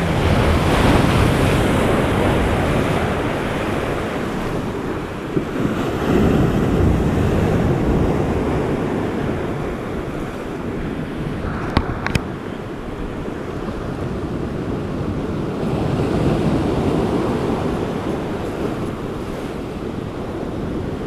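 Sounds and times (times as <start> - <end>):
surf breaking on rocky shore: 0.0 - 21.0
wind rumbling on microphone: 0.0 - 21.0.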